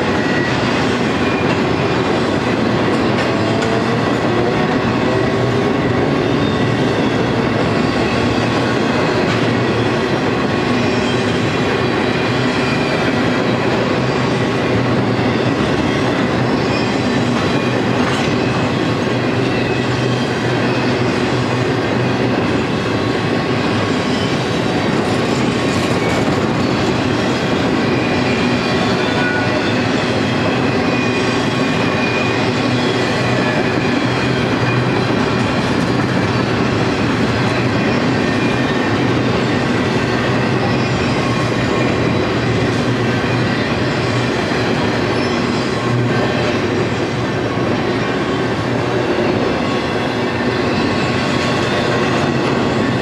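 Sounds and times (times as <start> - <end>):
steel wheels rolling on rail: 0.0 - 53.0.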